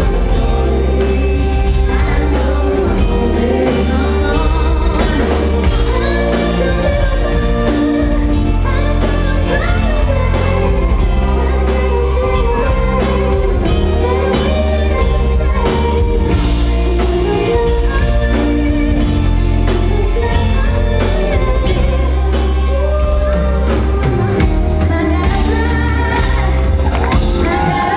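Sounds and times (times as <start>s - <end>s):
live pop concert music: 0.0s - 27.9s
person singing: 0.0s - 27.9s.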